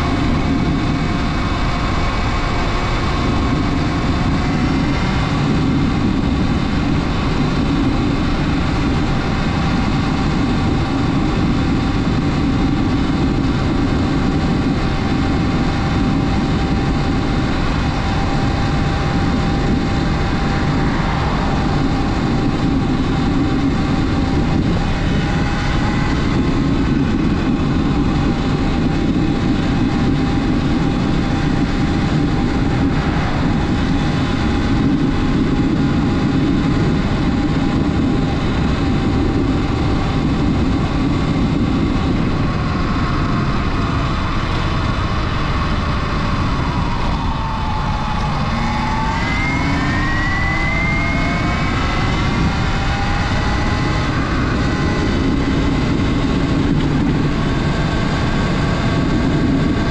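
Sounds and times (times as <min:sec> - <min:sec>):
constant rushing noise: 0:00.0 - 0:59.9
electric motor whine: 0:00.0 - 0:59.9.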